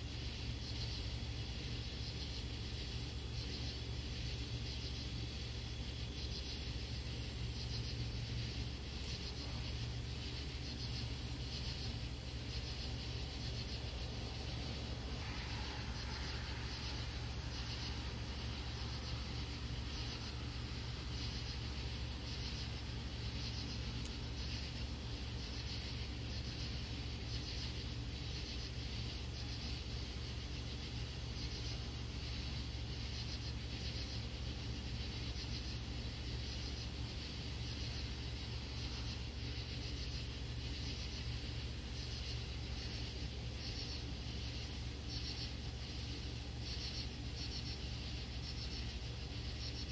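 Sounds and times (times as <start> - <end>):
constant low hum: 0.0 - 49.9
night insects chirping: 0.0 - 49.9.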